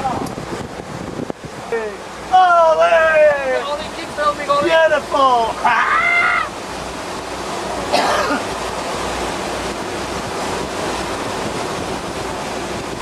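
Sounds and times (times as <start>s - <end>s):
sea and wind rushing: 0.0s - 13.0s.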